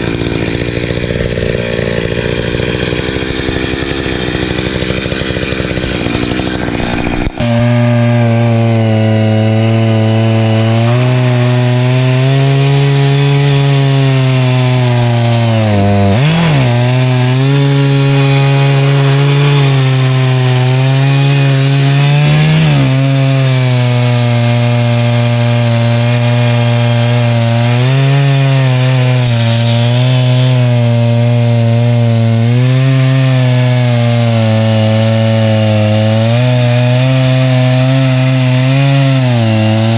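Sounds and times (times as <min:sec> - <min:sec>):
chainsaw cutting wood at high revs: 0:00.0 - 0:39.9.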